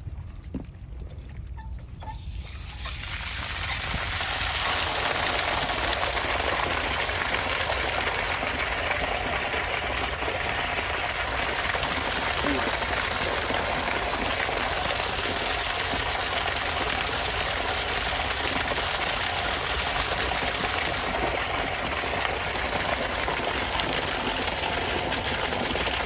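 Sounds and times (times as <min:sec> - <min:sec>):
water gushing and splashing: 0:00.0 - 0:26.0.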